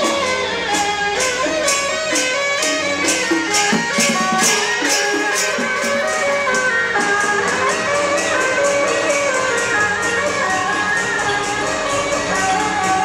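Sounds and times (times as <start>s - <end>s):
cymbal clashes: 0.0s - 13.0s
shawm playing wavering melody: 0.0s - 13.0s.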